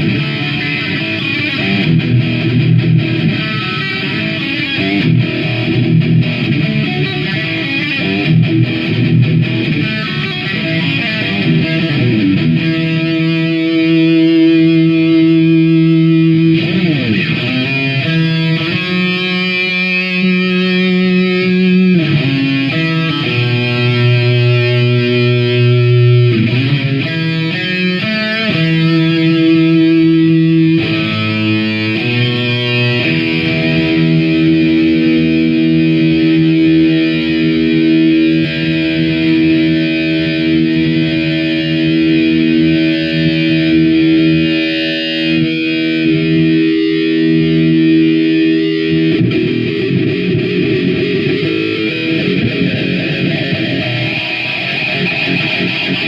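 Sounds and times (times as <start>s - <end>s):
distorted electric guitar riff: 0.0s - 56.0s.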